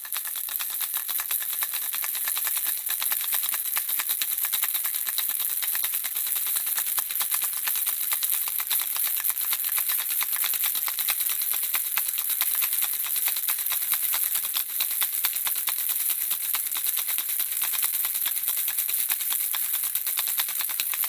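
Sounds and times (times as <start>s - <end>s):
baby rattle shaken: 0.0s - 21.0s.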